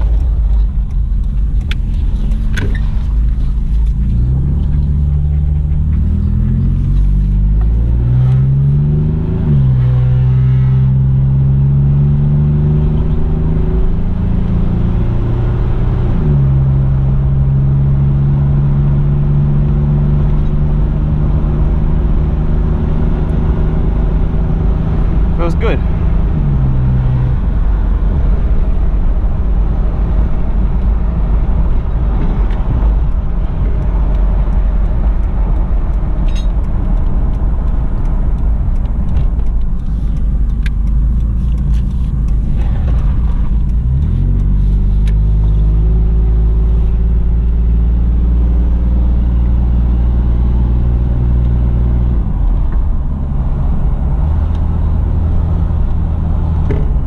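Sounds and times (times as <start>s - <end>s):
car engine: 0.0s - 57.0s
road noise: 0.0s - 57.0s.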